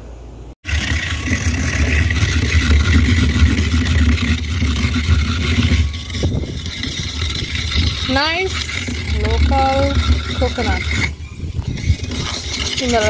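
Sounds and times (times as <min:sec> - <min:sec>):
coconut scraping on grater: 0:00.7 - 0:13.0.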